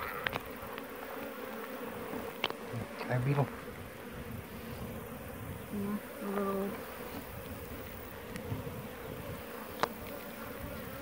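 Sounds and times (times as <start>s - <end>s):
bees flying close: 0.0s - 11.0s
honeybees buzzing: 0.0s - 11.0s.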